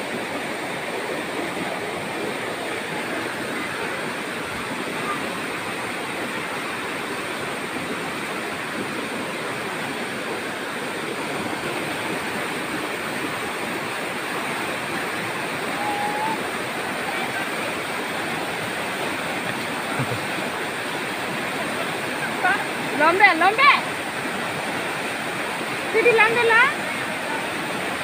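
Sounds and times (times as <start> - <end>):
river rushing: 0.0 - 28.0.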